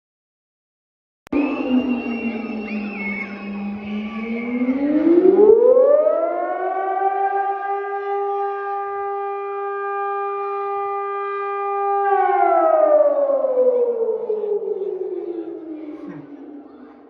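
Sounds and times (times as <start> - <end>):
warning siren: 1.3 - 17.0.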